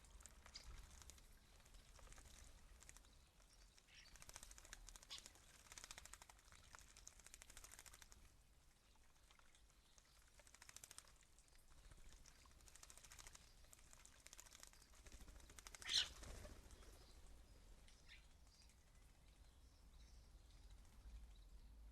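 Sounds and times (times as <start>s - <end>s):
starlings clicking and fluttering: 0.0s - 8.4s, 9.3s - 19.2s.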